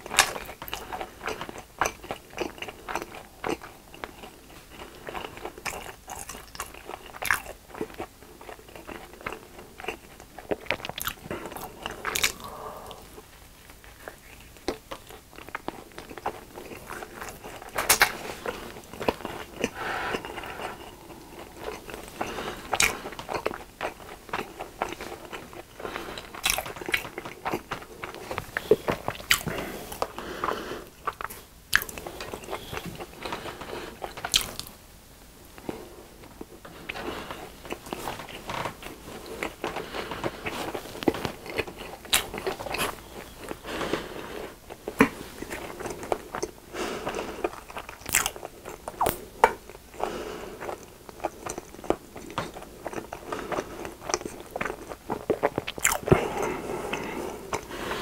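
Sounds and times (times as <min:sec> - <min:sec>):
crunchy coating crunching: 0:00.0 - 0:34.8, 0:35.6 - 0:58.0
soft chewing: 0:00.0 - 0:34.8, 0:35.5 - 0:58.0.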